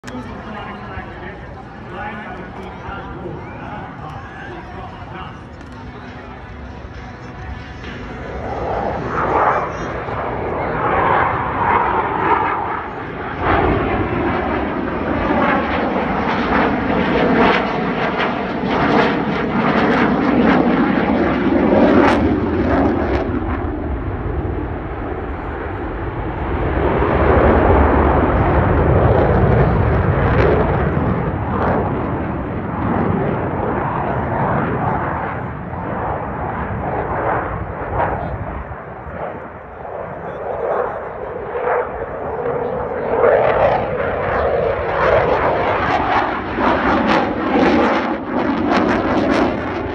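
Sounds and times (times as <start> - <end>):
jet engines roaring: 0.0 - 49.9
jet noise crackle: 0.0 - 49.9.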